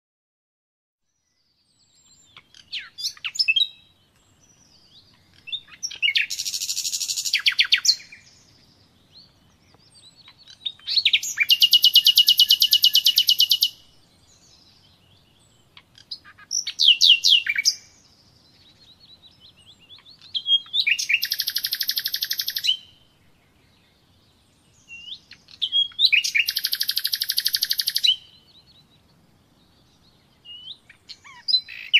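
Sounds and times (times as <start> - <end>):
songbird singing trills: 1.1 - 31.9.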